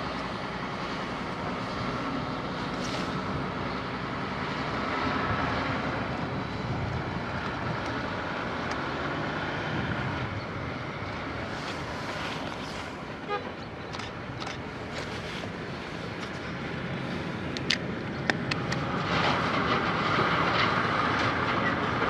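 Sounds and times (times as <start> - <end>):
heavy diesel machinery drone: 0.0 - 22.0.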